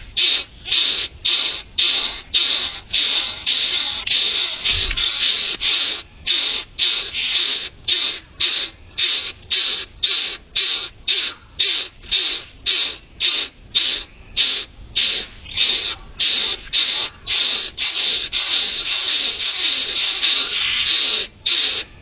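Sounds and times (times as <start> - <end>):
nestlings hissing: 0.0 - 22.0.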